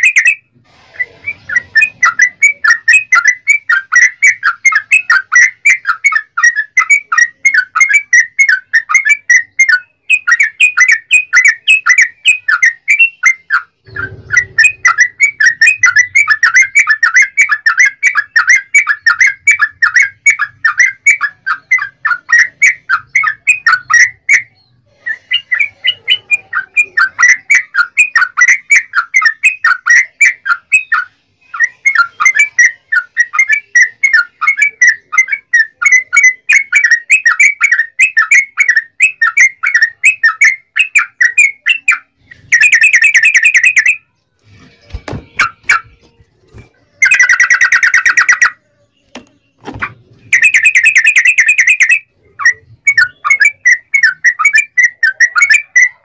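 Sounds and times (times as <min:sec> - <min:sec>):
bird chattering song: 0:00.0 - 0:56.0.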